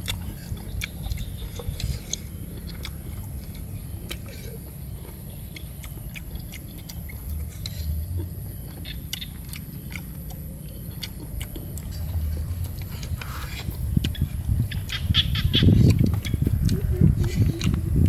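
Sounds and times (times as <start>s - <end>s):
low steady rumble: 0.0s - 18.0s
person chewing: 0.0s - 18.0s.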